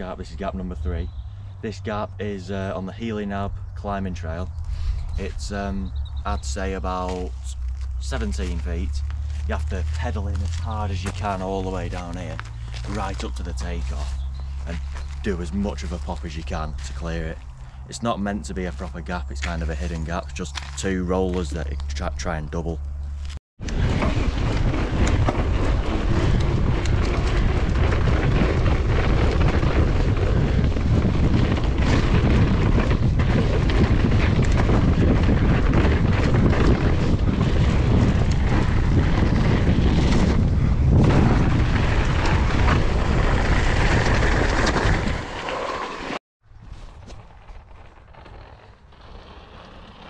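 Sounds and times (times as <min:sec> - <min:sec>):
wind rushing over microphone: 0:00.0 - 0:20.7, 0:23.0 - 0:46.1
bike tyres rumbling on dirt: 0:00.0 - 0:50.0.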